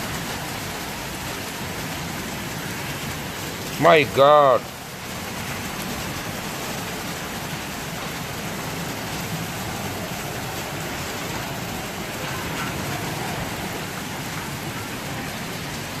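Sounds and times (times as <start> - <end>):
rain splashing on floodwater: 0.0 - 16.0.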